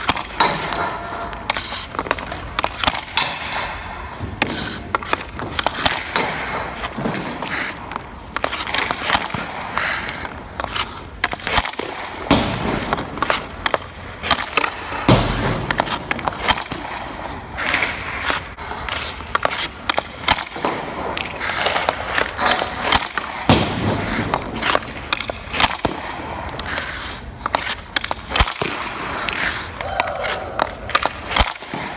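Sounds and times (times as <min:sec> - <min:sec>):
heavy puck thuds: 0:00.0 - 0:31.9
hockey stick clacking pucks: 0:00.0 - 0:31.9
skate blades scraping ice: 0:00.0 - 0:31.9.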